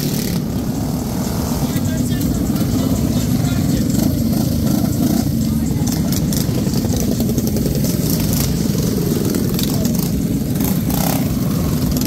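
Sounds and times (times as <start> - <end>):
crowd voices: 0.0 - 12.0
minibike engines buzzing: 0.0 - 12.0.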